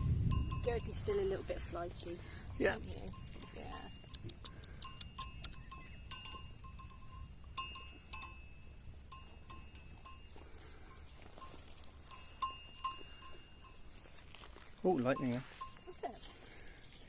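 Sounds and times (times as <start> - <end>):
goat bell clanking: 0.0 - 16.6.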